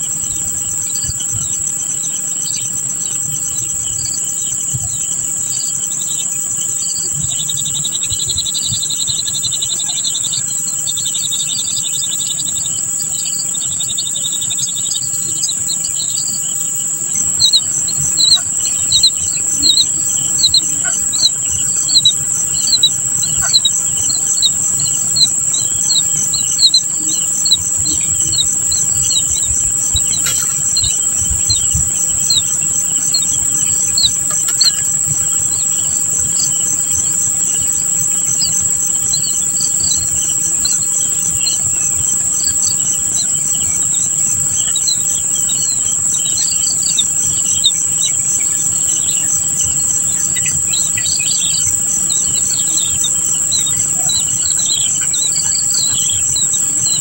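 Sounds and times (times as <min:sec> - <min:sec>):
bird chirping: 0:00.0 - 0:57.0
insect drone with pulsing trill: 0:00.0 - 0:57.0.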